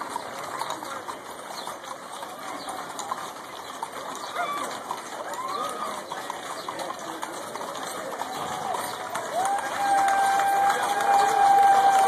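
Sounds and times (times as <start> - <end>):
horses passing: 0.0 - 12.0
street crowd noise: 0.0 - 12.0.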